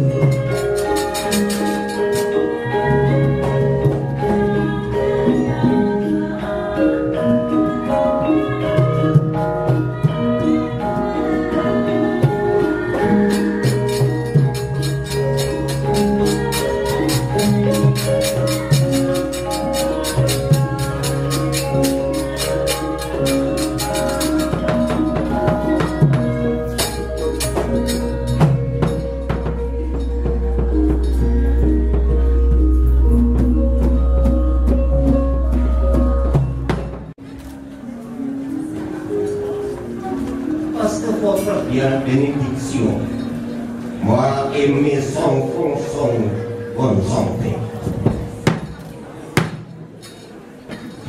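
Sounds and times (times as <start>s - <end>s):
gamelan metallophones ringing: 0.0s - 51.0s.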